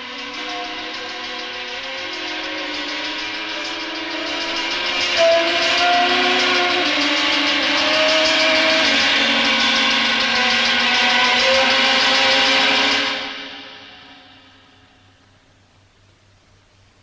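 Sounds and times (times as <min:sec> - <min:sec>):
dramatic film score: 0:00.0 - 0:15.3
fast pulsing hiss: 0:00.0 - 0:17.0.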